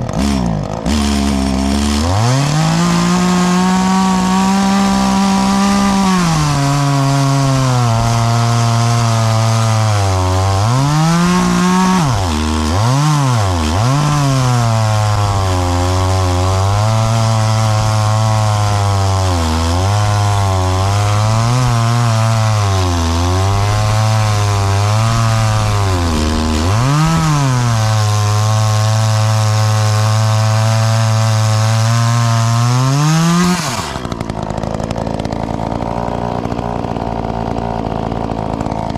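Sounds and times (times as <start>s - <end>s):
chainsaw cutting through log: 0.0s - 38.9s.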